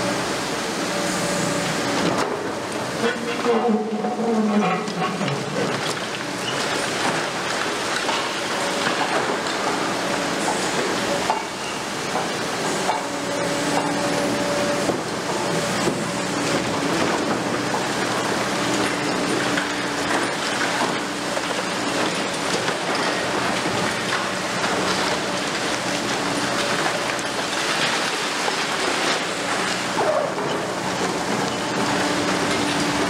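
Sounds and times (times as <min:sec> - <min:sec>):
continuous rushing hiss: 0:00.0 - 0:33.0
excavator engine and hydraulics droning: 0:00.0 - 0:33.0.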